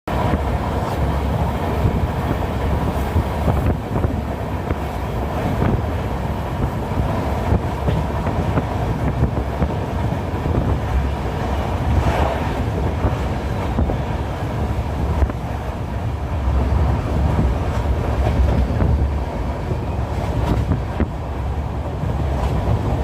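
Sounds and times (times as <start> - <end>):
train rumbling on track: 0.1 - 23.0.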